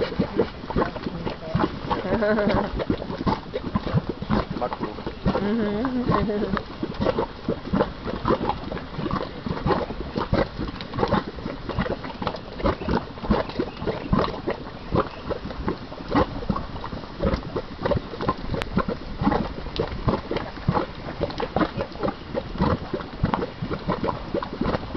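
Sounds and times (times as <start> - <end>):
mud pot bubbling: 0.0 - 24.9.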